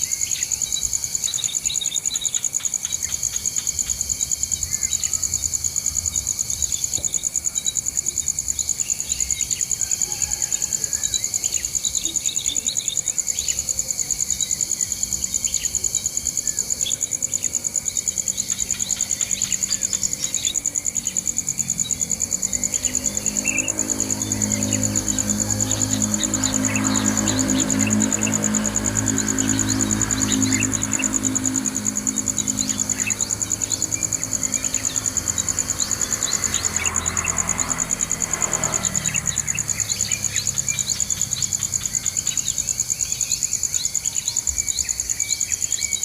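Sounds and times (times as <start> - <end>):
insect trill: 0.0 - 46.0.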